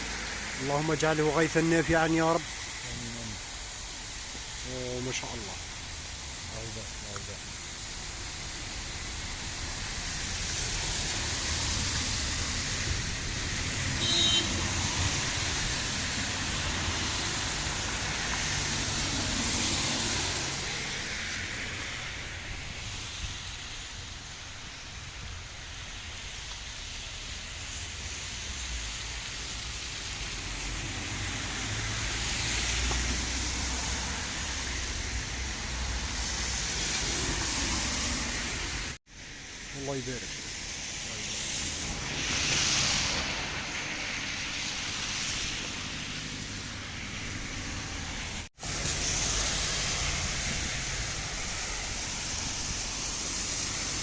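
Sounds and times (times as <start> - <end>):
heavy rain on street: 0.0 - 54.0
vehicles on wet road: 0.0 - 54.0.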